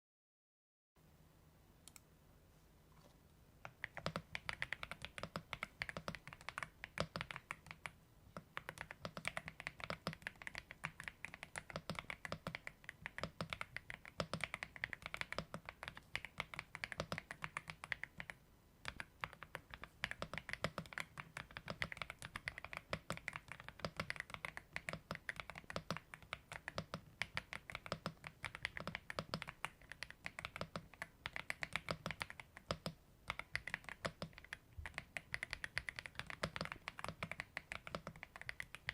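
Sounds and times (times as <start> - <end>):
mechanical keyboard typing: 3.6 - 38.9.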